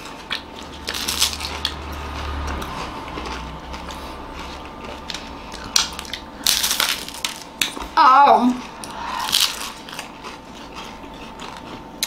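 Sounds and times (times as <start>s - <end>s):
crunching of wafer cone: 0.0s - 7.8s, 8.7s - 12.0s.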